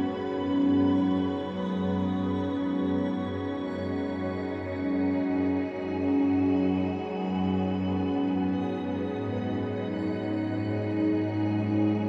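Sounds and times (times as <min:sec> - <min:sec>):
slow ambient music with sustained tones: 0:00.0 - 0:12.0.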